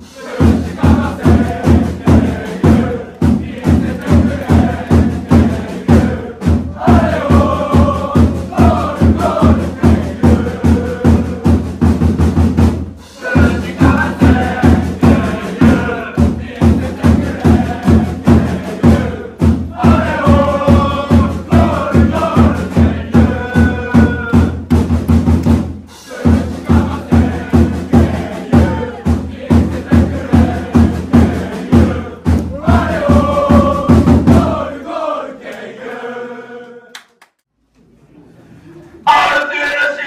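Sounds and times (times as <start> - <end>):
crowd chanting in unison: 0.0 - 11.6, 13.2 - 24.6, 26.0 - 37.0, 39.0 - 40.0
drum beating steadily: 0.0 - 35.2.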